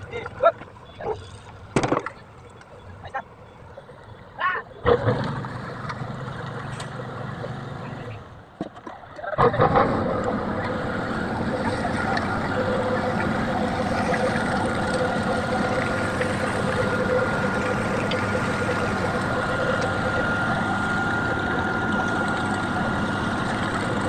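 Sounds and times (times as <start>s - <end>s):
heavy machinery engine running: 0.0s - 8.6s, 9.4s - 24.0s.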